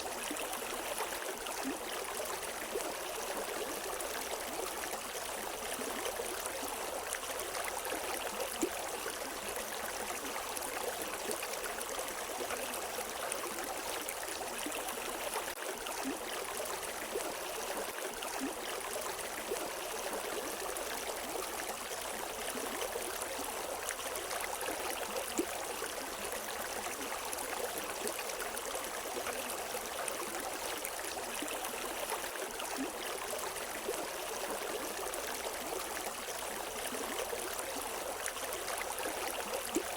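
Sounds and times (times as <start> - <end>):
water splashes and trickles: 0.0 - 39.9.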